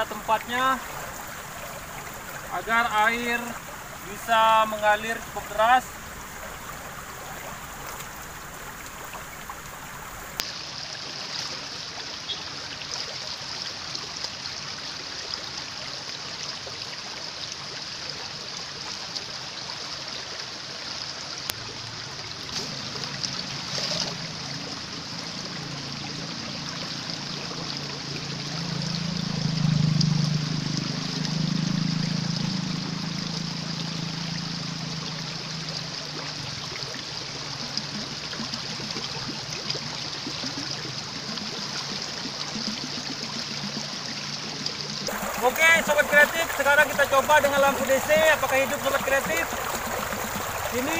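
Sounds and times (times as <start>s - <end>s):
shallow stream splashing: 0.0s - 50.9s.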